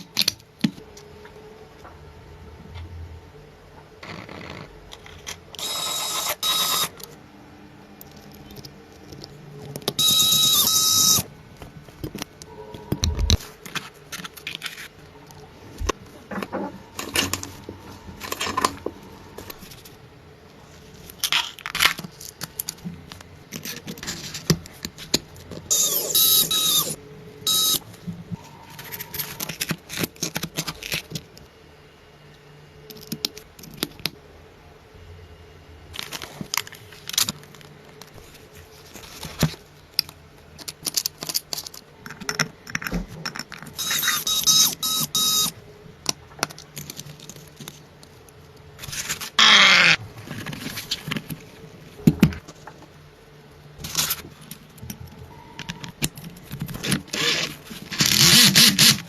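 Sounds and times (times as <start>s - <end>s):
high whirring noise: 0.0s - 21.3s, 21.9s - 40.4s, 43.6s - 46.2s, 47.2s - 59.0s.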